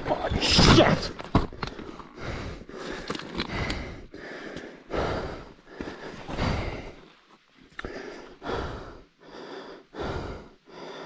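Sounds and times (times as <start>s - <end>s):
person breathing hard: 1.6s - 11.0s.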